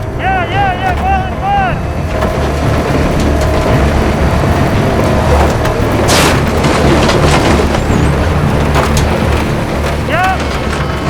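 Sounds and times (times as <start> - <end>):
diesel truck engines rumbling: 0.0 - 11.0.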